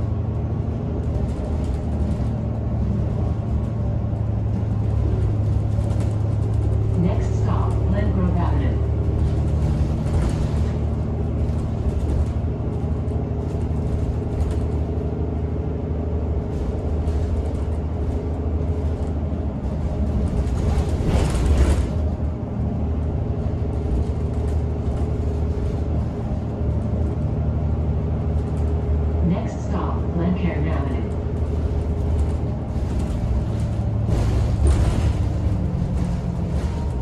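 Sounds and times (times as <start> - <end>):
bus drivetrain hum: 0.0 - 37.0
road and body noise: 0.0 - 37.0.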